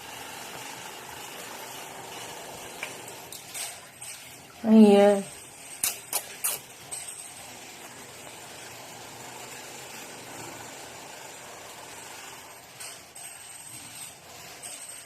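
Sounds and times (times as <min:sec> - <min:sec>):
washing machine running: 0:00.0 - 0:15.0.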